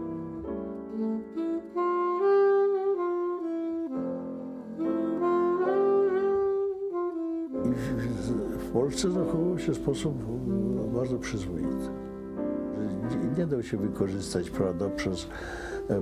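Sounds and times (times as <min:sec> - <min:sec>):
saxophone melody: 0:00.0 - 0:16.0.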